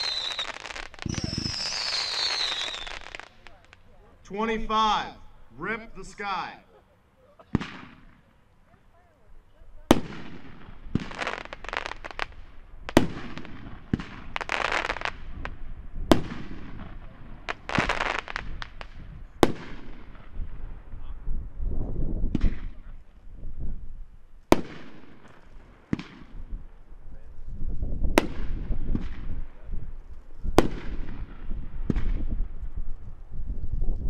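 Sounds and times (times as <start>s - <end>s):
fireworks bursting: 0.0s - 6.8s, 7.4s - 21.0s, 22.1s - 23.3s, 24.1s - 27.1s, 27.9s - 33.8s
crackling hissing firework trails: 0.0s - 34.0s.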